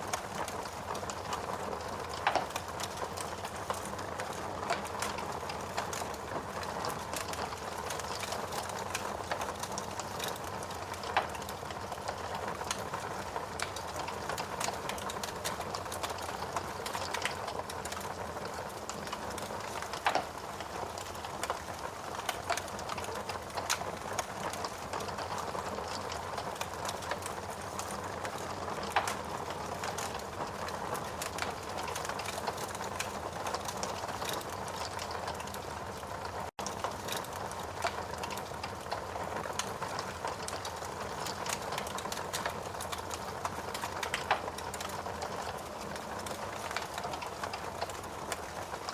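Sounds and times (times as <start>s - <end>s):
steady rain: 0.0s - 48.9s
wood fire crackling: 0.0s - 48.9s.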